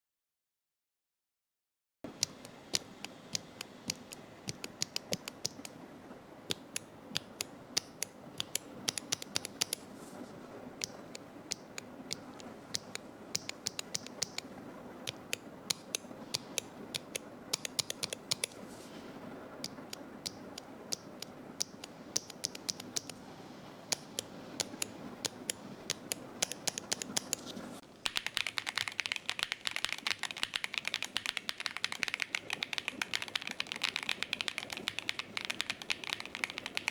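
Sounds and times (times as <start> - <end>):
keyboard switches clicking: 2.1 - 5.8, 6.5 - 9.8, 10.8 - 18.6, 19.6 - 23.2, 23.9 - 27.4, 28.1 - 36.9
fast typing on keyboard: 2.2 - 5.8, 6.5 - 9.8, 10.8 - 14.5, 15.1 - 18.6, 19.7 - 23.2, 23.9 - 27.4, 28.0 - 36.9.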